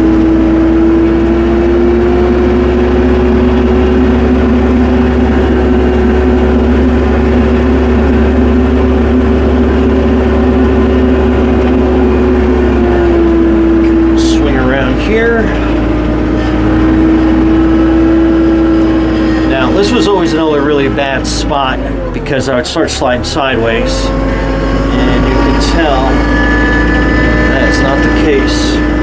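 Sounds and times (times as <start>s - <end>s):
steady whine: 0.0s - 29.0s
tractor engine running: 0.0s - 29.0s.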